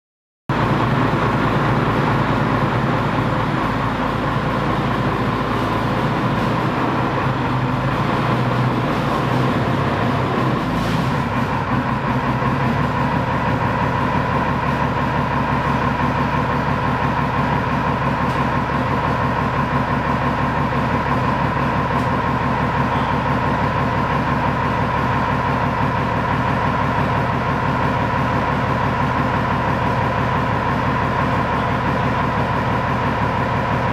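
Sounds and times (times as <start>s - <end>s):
diesel engine rumbling: 0.5s - 33.9s.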